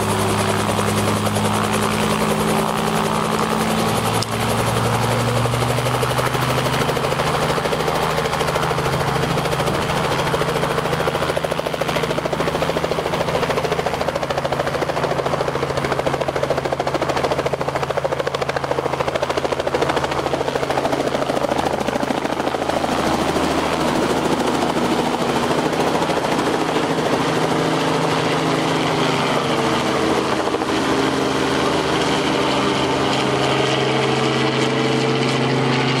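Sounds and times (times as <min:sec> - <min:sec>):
helicopter rotor and engine: 0:00.0 - 0:36.0.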